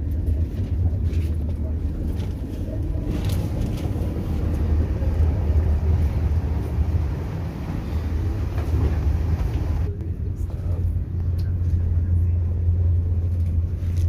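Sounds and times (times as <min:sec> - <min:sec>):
train rumbling inside carriage: 0:00.0 - 0:14.0.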